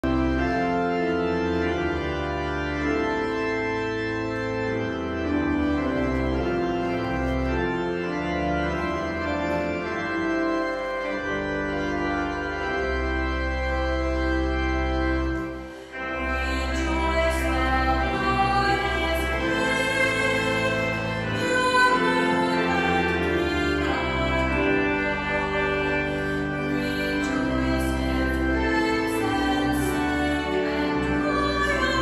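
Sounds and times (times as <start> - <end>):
organ playing chords: 0.0 - 32.0.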